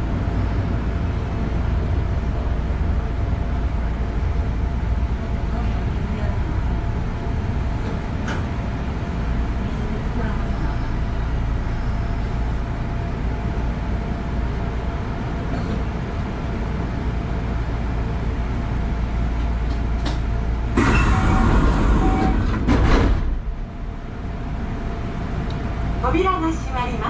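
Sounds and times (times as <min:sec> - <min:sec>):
low hum of train equipment: 0:00.0 - 0:27.0.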